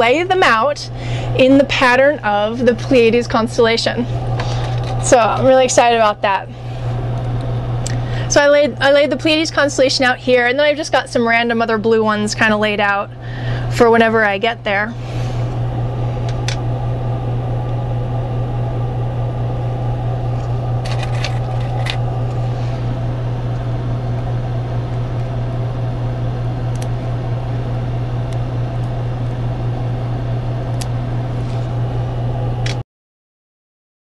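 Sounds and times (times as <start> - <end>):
low machine hum: 0.0 - 32.8.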